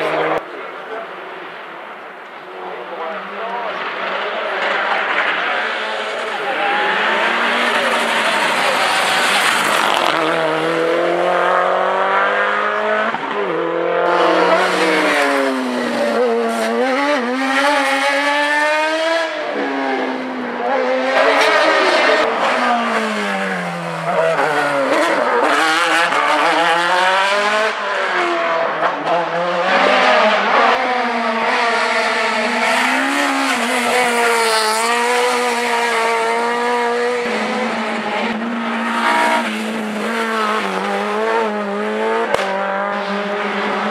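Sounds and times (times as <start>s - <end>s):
race car engines revving: 0.0s - 43.9s.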